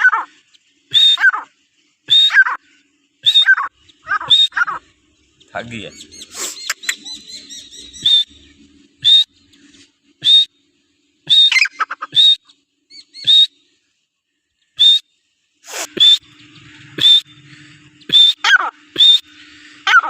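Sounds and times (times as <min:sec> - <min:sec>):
francolin calling: 0:00.0 - 0:10.6, 0:11.2 - 0:13.8, 0:14.7 - 0:20.0.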